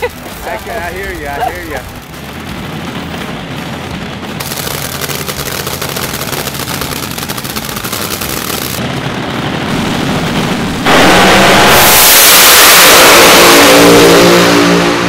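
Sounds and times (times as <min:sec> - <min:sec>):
dragster engine crackling: 0:00.0 - 0:14.9.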